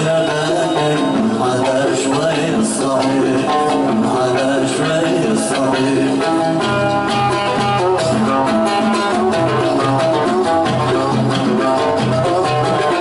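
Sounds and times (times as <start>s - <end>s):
plucked string instrumental: 0.0s - 13.0s
steady beat: 0.0s - 13.0s.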